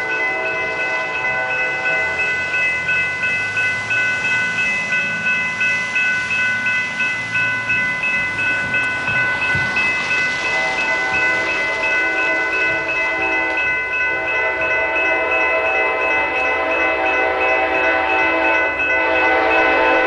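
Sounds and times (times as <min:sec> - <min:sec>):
railroad crossing bell ringing: 0:00.0 - 0:20.0.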